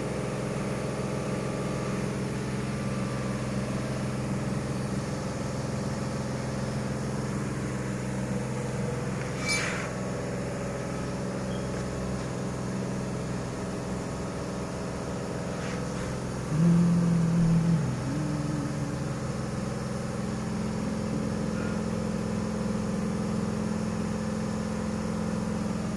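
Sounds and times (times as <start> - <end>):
car engine idling: 0.0 - 25.9
steady hum: 0.0 - 25.9.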